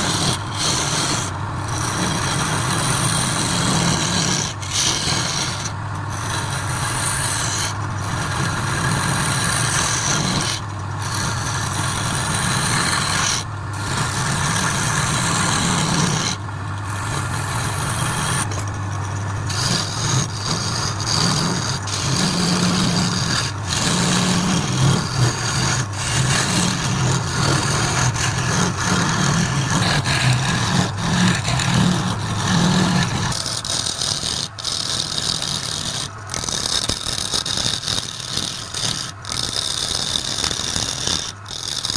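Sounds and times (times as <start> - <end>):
lathe motor hum: 0.0 - 41.9
turning tool scraping wood: 0.0 - 41.9.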